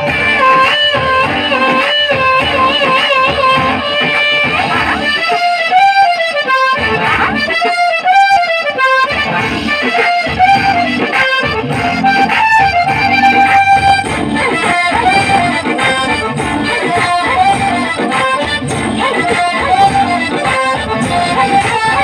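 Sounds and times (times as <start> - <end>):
steady drum beat: 0.0 - 5.5, 9.1 - 22.0
wavering lead instrument melody: 0.0 - 22.0.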